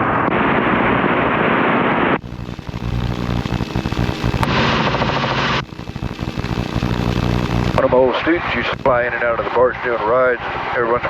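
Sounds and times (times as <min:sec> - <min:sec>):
radio hiss: 0:01.6 - 0:11.0.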